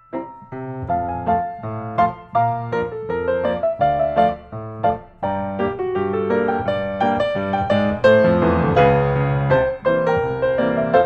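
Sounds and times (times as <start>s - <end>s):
piano music with quick notes: 0.0s - 11.0s.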